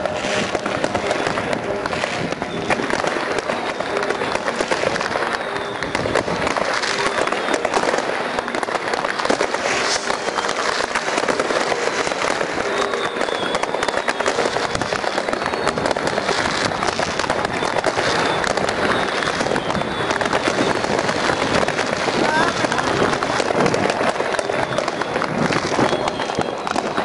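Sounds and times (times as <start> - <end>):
fireworks and firecrackers crackling: 0.0 - 27.0.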